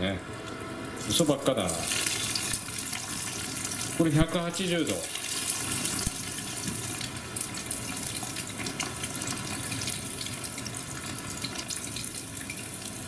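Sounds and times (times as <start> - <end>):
chicken deep-frying in oil: 1.0 - 13.0.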